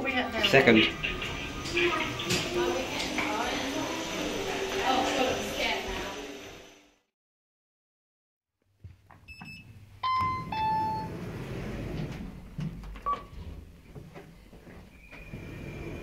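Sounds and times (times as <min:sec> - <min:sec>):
lift car hum: 0:00.0 - 0:06.8, 0:09.9 - 0:16.0.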